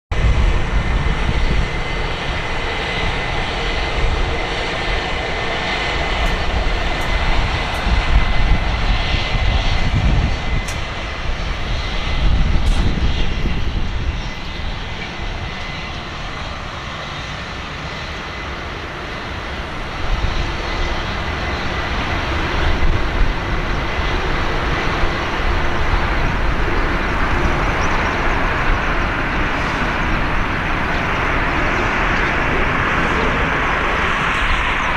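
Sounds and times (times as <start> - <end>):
jet engines roaring: 0.1 - 34.9.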